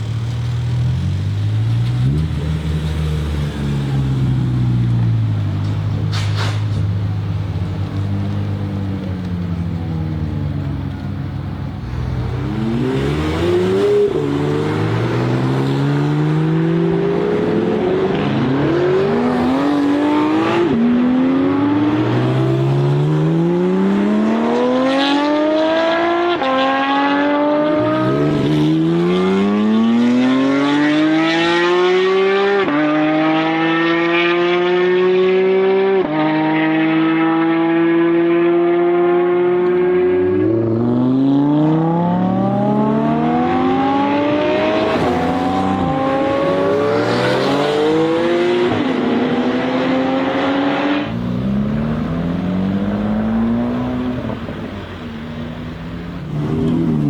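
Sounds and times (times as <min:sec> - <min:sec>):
car engine accelerating hard: 0:10.5 - 0:57.0.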